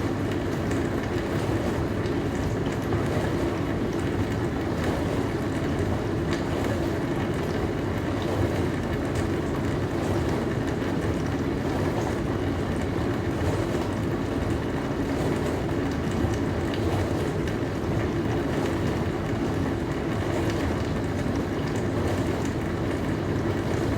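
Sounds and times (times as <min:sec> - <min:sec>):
pump hum: 0:00.0 - 0:23.9.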